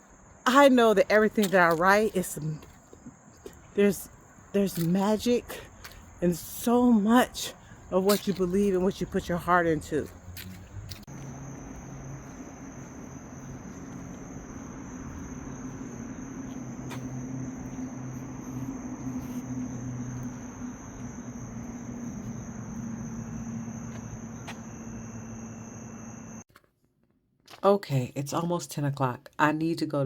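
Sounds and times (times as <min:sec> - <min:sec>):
crickets trilling: 0:00.0 - 0:26.4.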